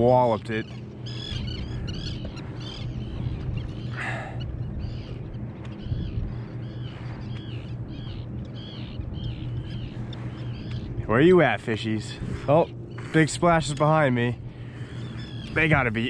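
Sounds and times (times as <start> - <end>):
birds calling: 0.0 - 16.0
steady low hum: 0.0 - 16.0.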